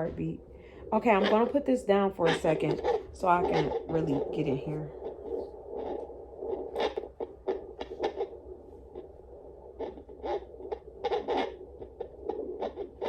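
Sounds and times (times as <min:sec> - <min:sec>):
probe crackles and scrapes: 0:00.0 - 0:13.0.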